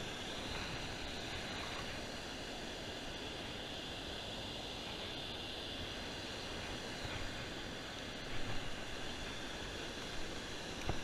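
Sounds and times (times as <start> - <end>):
river water pouring over waterfall: 0.0 - 11.0.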